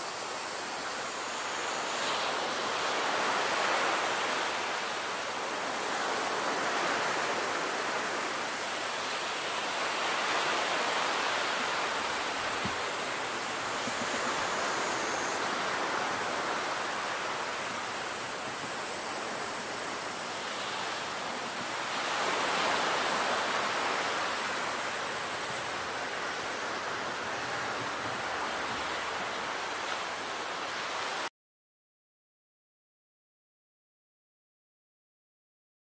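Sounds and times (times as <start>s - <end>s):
surf washing against breakwater: 0.0s - 31.3s.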